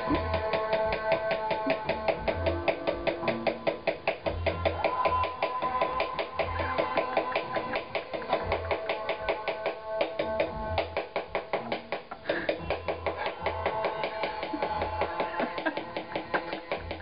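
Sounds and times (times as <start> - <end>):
drumsticks on practice pad: 0.0 - 17.0
music track with bass: 0.0 - 17.0.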